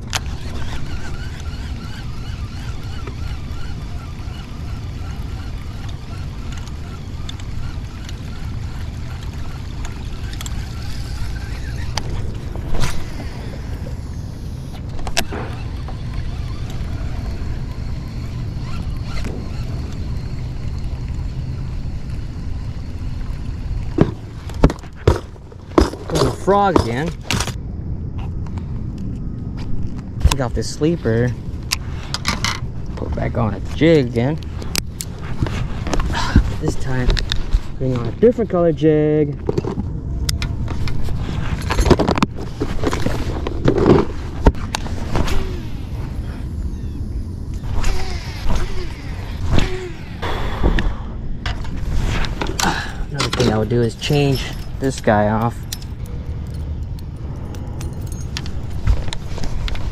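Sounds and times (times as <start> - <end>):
wind and water rumble: 0.0 - 59.9.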